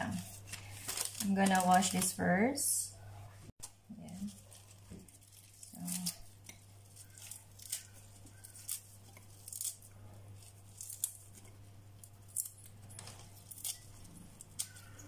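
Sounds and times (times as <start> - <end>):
low steady hum: 0.0 - 15.0
salad leaves tearing: 0.1 - 2.2, 4.1 - 15.0.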